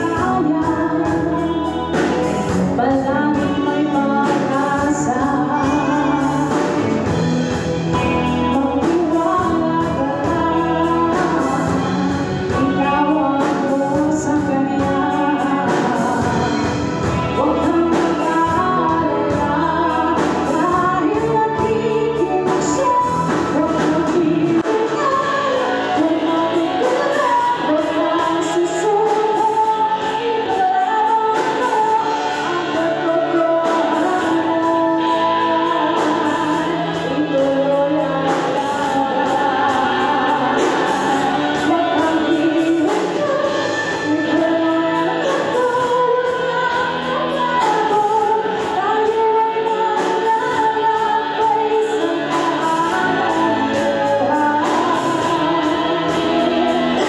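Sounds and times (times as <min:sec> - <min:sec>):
instrumental accompaniment: 0:00.0 - 0:57.0
woman singing into microphone: 0:00.0 - 0:57.0.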